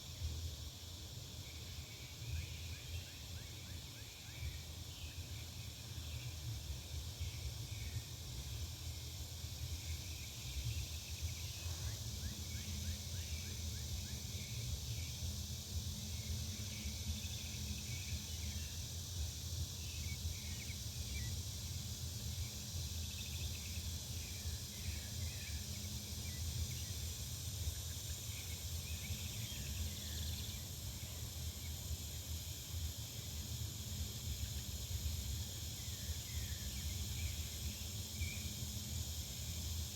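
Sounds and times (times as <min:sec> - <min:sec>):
faint hum: 0:00.0 - 0:39.9
steady high hiss: 0:00.0 - 0:39.9.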